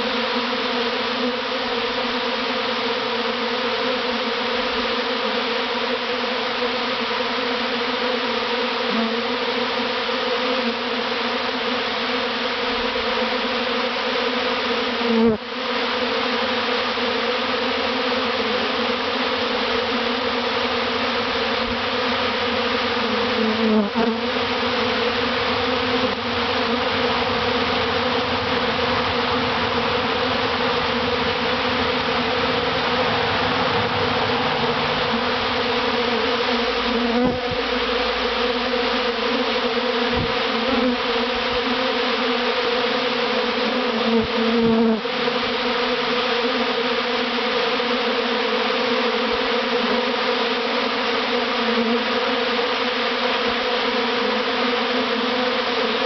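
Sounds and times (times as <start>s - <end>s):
bees swarm buzzing: 0.0s - 56.0s.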